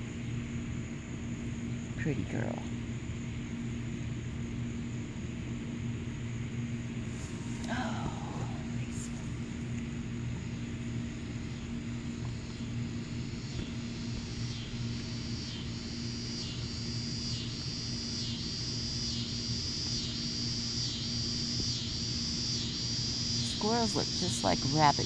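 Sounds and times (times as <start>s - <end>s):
pulsing insect call: 0.0s - 25.0s
low hum: 1.0s - 25.0s.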